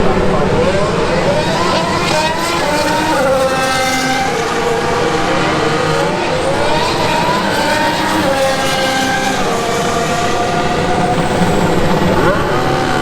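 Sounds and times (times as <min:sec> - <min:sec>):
racing car engines accelerating: 0:00.0 - 0:13.0.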